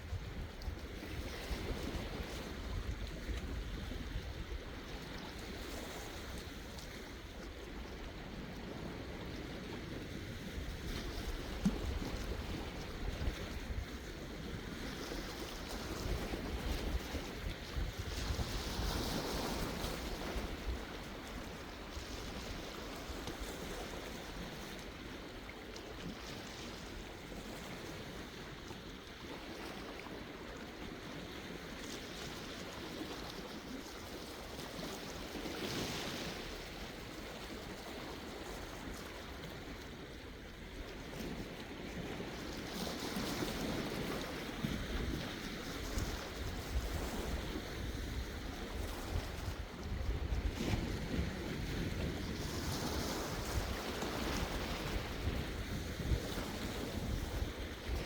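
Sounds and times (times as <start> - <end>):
wind rumbling on microphone: 0.0 - 25.0, 33.8 - 58.0.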